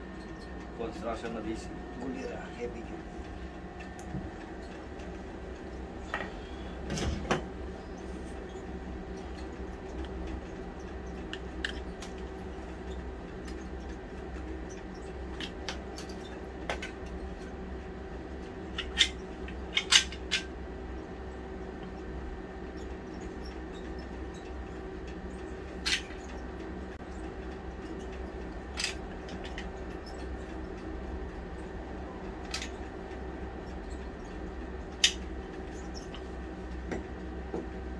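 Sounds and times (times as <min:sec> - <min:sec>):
low mechanical hum: 0:00.0 - 0:37.9.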